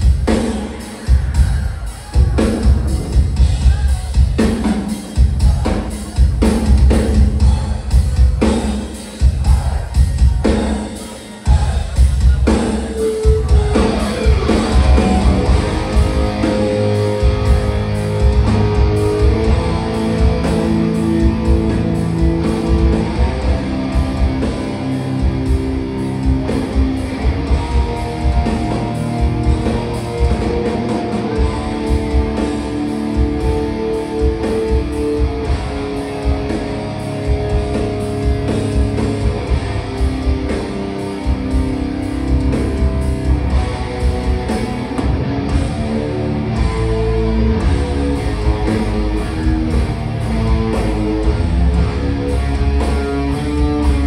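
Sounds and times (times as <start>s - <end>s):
bass: 0.0s - 54.0s
distorted electric guitars: 0.0s - 54.0s
pounding drums: 0.0s - 54.0s.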